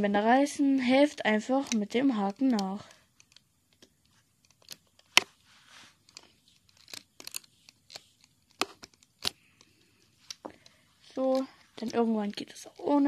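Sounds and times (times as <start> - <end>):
soft rustling: 0.6 - 13.0
rubber bands clicking and snapping: 0.7 - 5.3, 6.0 - 13.0.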